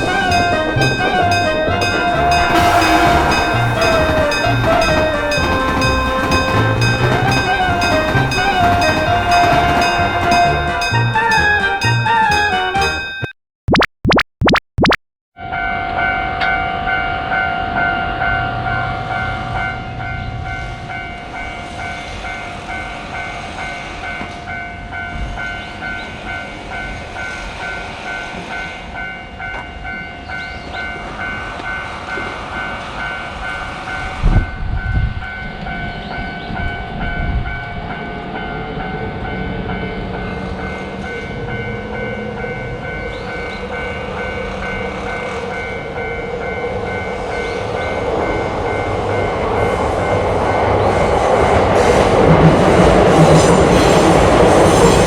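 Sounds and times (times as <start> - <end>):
train rumbling past: 0.0 - 13.2, 15.5 - 55.0
railway crossing bell ringing: 0.0 - 13.3, 15.4 - 55.0.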